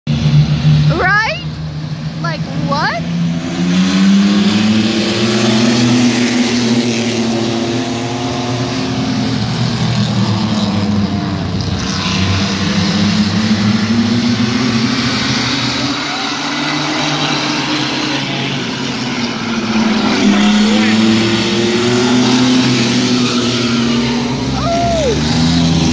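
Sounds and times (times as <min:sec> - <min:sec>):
racing truck engines: 0:00.0 - 0:25.9.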